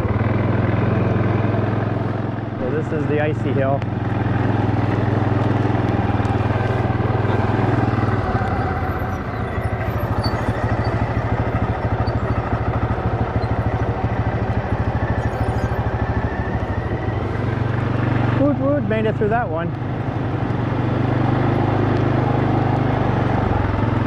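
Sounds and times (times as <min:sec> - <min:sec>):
off-road vehicle engine chugging: 0:00.0 - 0:24.0.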